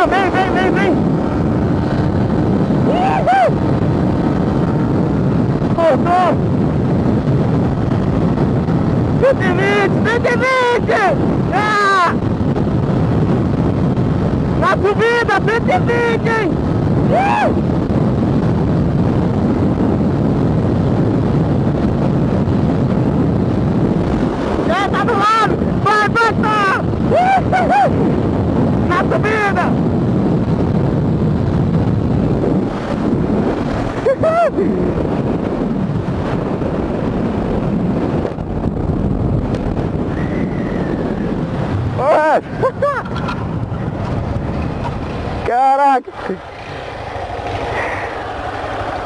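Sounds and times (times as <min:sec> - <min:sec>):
motorcycle engine running hard: 0:00.0 - 0:49.0
wind rush on microphone: 0:00.0 - 0:49.0.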